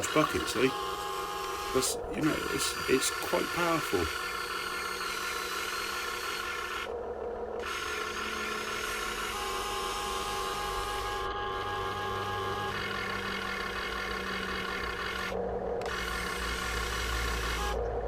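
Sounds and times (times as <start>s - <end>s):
servo motors whirring: 0.0s - 6.9s, 7.6s - 17.8s
steady whining tones: 0.0s - 18.0s.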